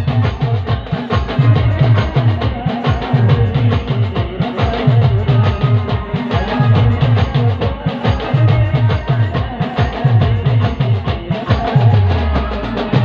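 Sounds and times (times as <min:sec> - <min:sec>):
fast drum beat: 0:00.0 - 0:13.0
keyboard band music: 0:00.0 - 0:13.0.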